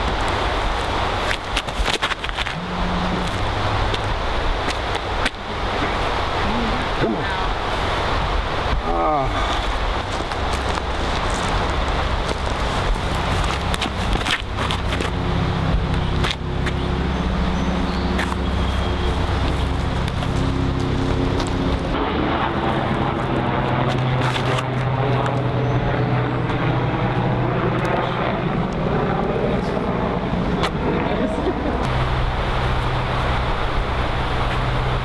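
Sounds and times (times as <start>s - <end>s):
passing vehicle engine drone: 2.3s - 8.8s, 9.8s - 35.0s.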